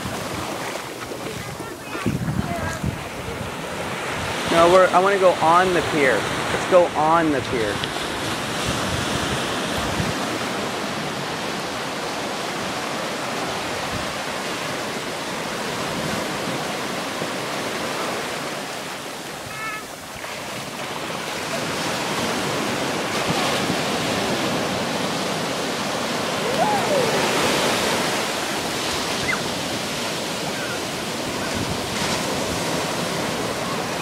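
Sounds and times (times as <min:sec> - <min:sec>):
small waves breaking on beach: 0:00.0 - 0:34.0.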